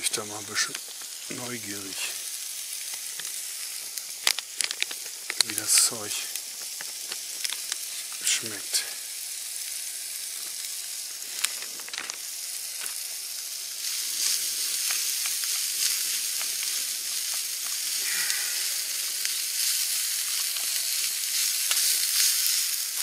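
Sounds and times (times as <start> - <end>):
food sizzling in frying pan: 0.0 - 23.0.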